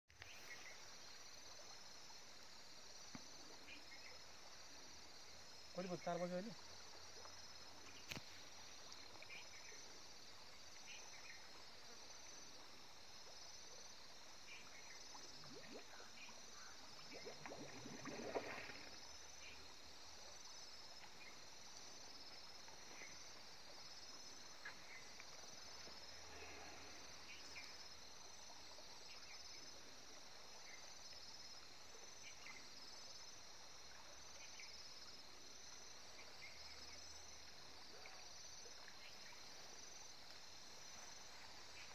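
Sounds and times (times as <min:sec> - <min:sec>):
insects chirping: 0:00.1 - 0:41.9.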